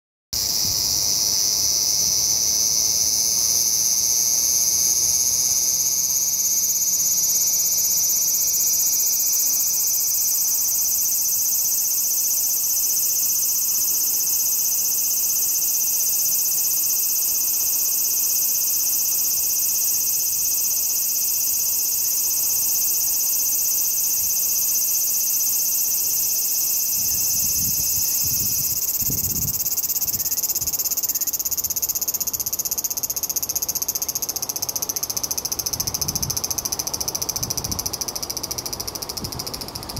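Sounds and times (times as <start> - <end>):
cicada high-pitched buzz: 0.4 - 39.9.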